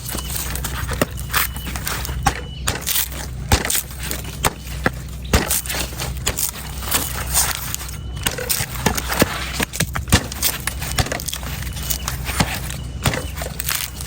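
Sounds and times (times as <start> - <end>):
knife chopping coconut: 0.0 - 14.0
steady low hum: 0.0 - 14.0.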